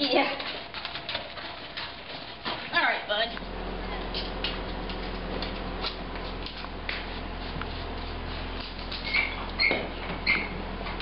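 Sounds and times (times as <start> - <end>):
steady low hum: 0.3 - 11.0.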